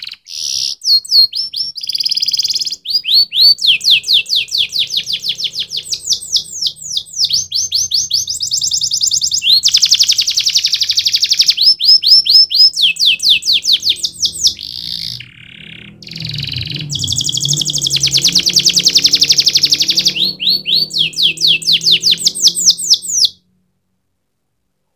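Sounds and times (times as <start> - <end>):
canary singing trills: 0.0 - 23.4.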